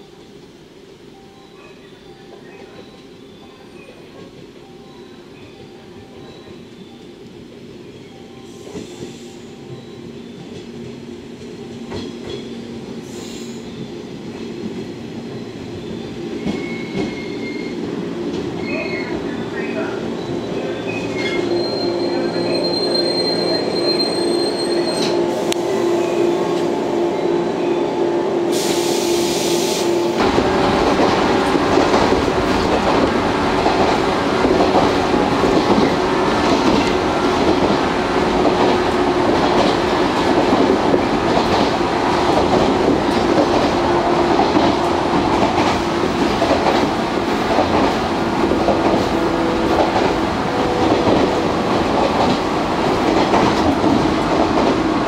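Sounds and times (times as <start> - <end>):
electric train humming: 0.0 - 55.0
train motor and wheel running noise: 7.9 - 55.0.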